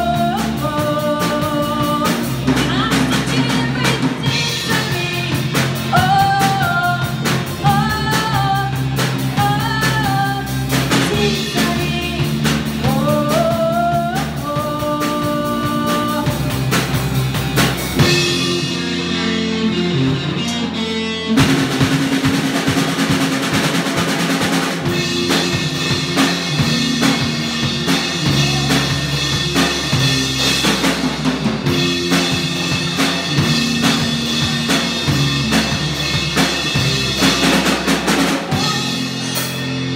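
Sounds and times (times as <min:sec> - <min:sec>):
band playing song: 0:00.0 - 0:39.9
bass: 0:00.0 - 0:39.9
drum kit: 0:00.0 - 0:39.9.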